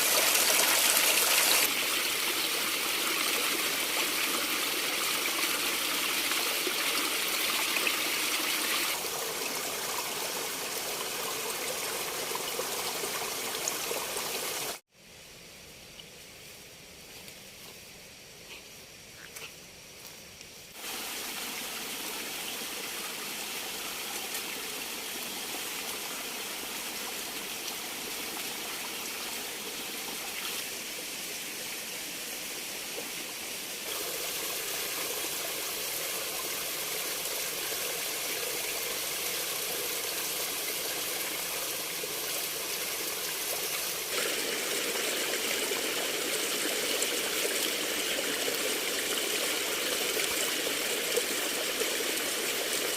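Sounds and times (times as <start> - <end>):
stream water rushing: 0.0 - 14.8, 20.8 - 52.9.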